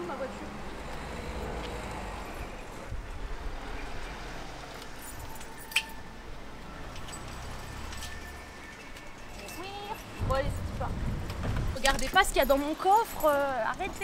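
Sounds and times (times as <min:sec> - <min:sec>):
street rumble: 0:00.0 - 0:14.0.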